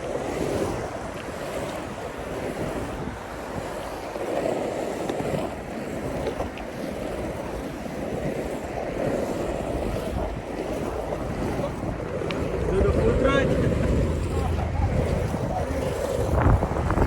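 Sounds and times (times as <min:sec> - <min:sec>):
skateboard wheels rolling on concrete: 0:00.0 - 0:17.0
wind buffeting microphone: 0:00.0 - 0:17.0.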